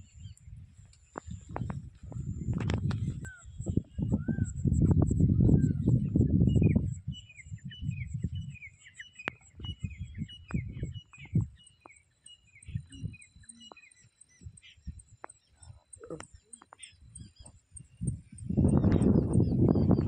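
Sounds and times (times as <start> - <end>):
wind rumble on microphone: 0.0 - 11.6, 12.5 - 13.8, 14.4 - 20.0
small birds chirping: 0.0 - 20.0.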